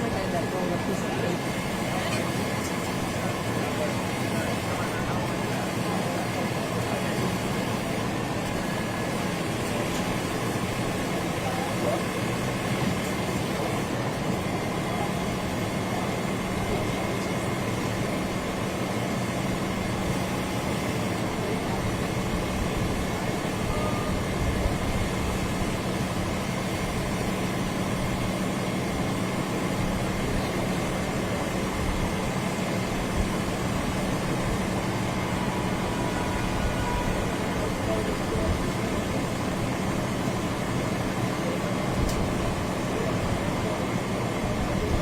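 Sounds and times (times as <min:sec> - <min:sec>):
constant low hum: 0:00.0 - 0:45.0.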